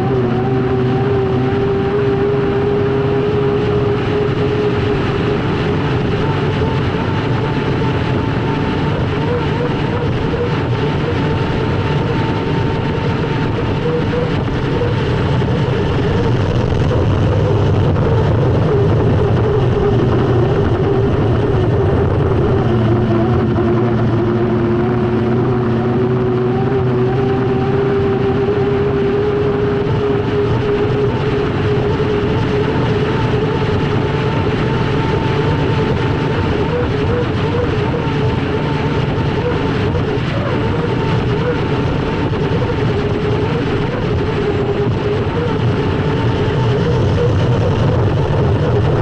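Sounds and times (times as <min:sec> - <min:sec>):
rush of wind and water: 0:00.0 - 0:49.0
turbine engine whine: 0:00.0 - 0:49.0.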